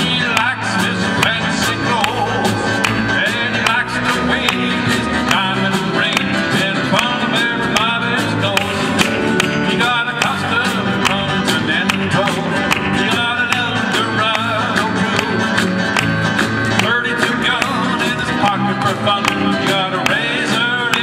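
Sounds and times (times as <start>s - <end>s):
person singing: 0.0s - 16.0s, 16.7s - 21.0s
acoustic guitars strumming: 0.0s - 21.0s
steady drum beat: 0.0s - 21.0s.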